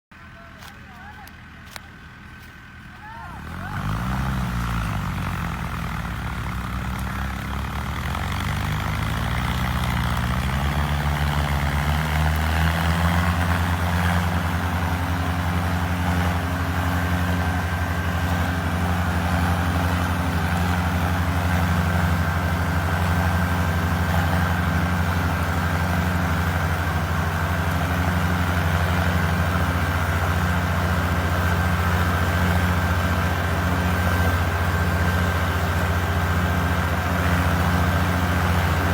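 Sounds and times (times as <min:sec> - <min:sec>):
sawmill motor droning: 0:00.5 - 0:38.9.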